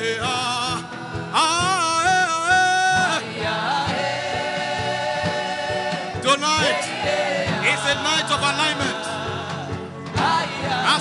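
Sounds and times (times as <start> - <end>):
steady low drum beat: 0.0 - 11.0
sustained keyboard chords: 0.0 - 11.0.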